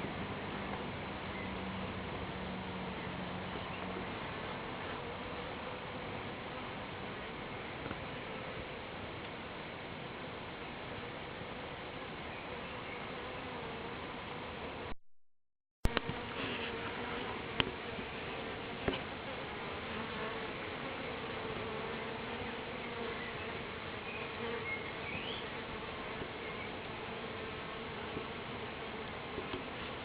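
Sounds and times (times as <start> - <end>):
bee swarm buzzing: 1.0 - 15.0, 15.9 - 30.0.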